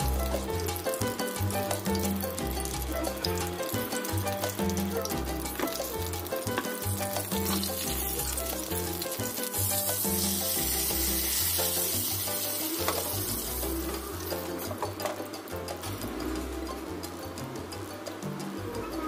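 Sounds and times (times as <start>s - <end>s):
hot oil sizzling: 0.0s - 17.6s
background music: 0.0s - 19.0s.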